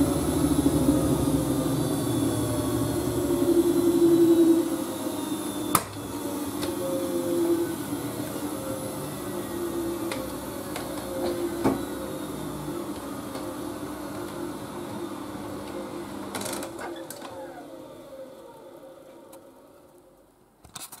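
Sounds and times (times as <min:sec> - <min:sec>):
washing machine motor hum: 0:00.0 - 0:20.6.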